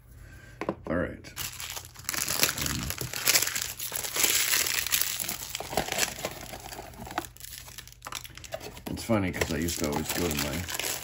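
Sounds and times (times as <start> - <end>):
plastic wrapper crinkling: 1.4 - 11.0.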